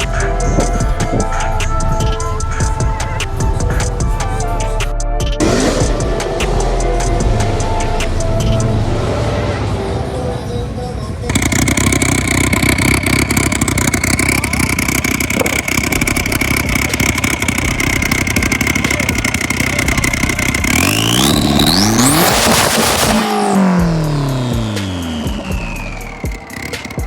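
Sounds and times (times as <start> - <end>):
car engine revving: 0.0 - 27.0
high whine: 0.0 - 27.0.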